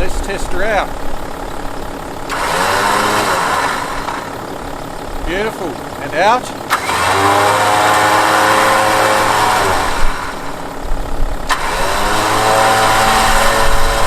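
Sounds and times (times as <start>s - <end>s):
electric winch motor whine: 0.9s - 14.0s.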